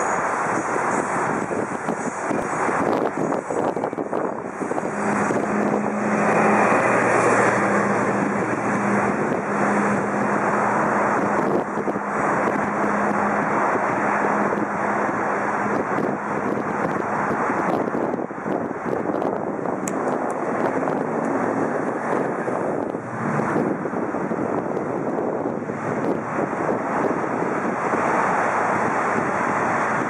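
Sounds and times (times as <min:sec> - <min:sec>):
steady low hum: 0:00.0 - 0:29.1
train rushing by: 0:00.0 - 0:30.0.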